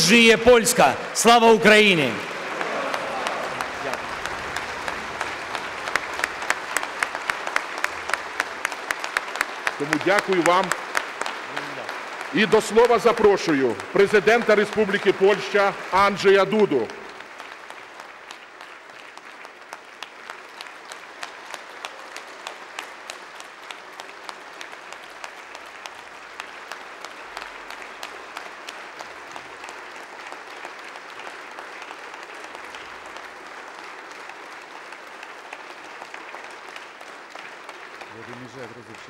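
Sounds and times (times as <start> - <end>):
audience applauding: 0.0 - 39.0.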